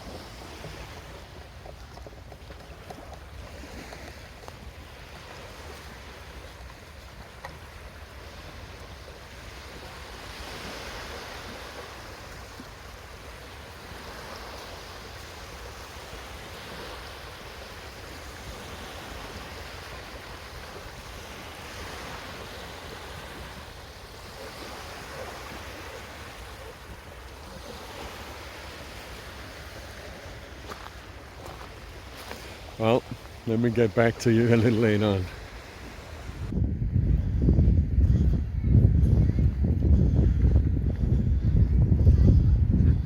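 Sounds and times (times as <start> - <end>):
small waves washing onto beach: 0.0 - 36.6.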